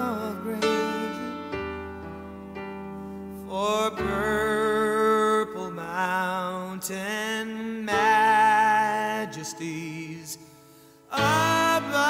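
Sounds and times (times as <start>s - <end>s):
slow music with held notes: 0.0s - 12.0s.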